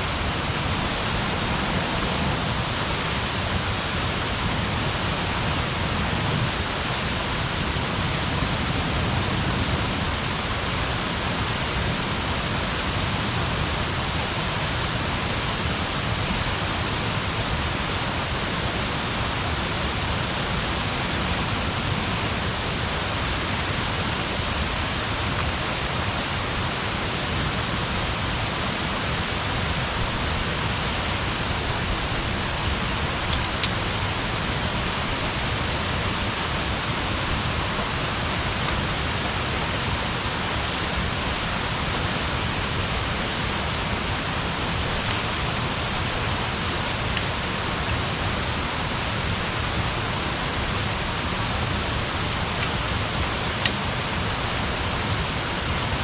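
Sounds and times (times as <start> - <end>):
campfire hissing: 0.0 - 56.0.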